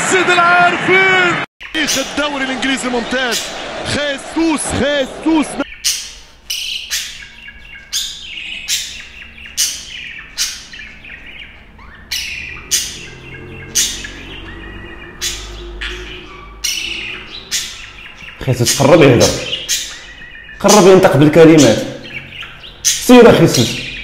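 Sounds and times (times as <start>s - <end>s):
budgerigars chirping: 1.6s - 3.7s, 5.6s - 24.0s.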